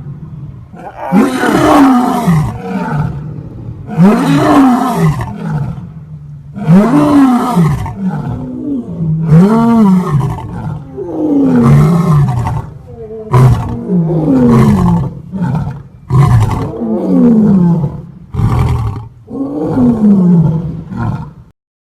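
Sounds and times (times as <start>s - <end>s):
lion roaring: 0.2s - 21.5s.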